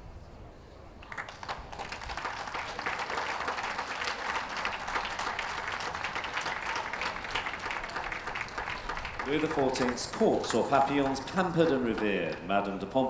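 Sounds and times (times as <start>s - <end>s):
audience applauding: 1.0s - 12.8s.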